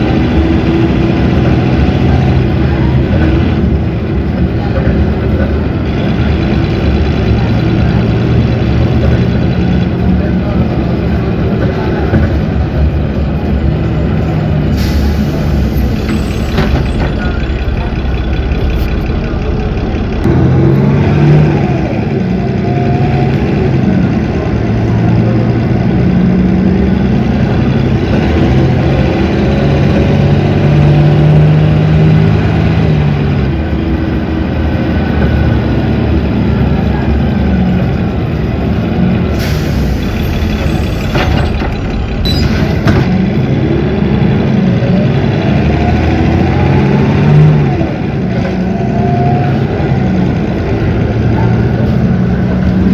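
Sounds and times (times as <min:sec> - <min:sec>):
bus diesel engine accelerating: 0:00.0 - 0:52.9.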